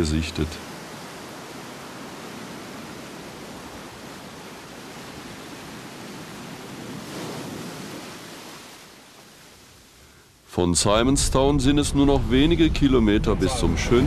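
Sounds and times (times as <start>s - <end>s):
sea surf rushing: 0.0s - 14.0s
wind: 0.0s - 14.0s.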